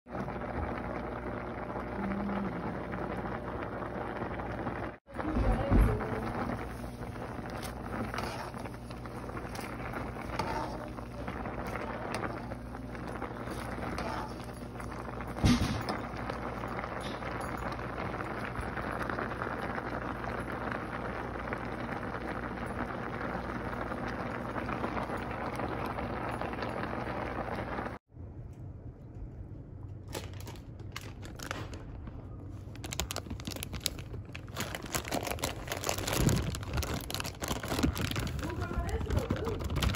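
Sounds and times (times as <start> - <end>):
water boiling in a pot: 0.1 - 28.0, 32.6 - 39.9.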